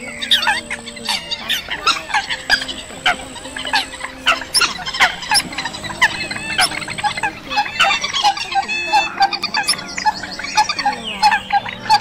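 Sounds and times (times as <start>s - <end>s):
bird calls: 0.0s - 12.0s
thin high tone: 0.0s - 12.0s.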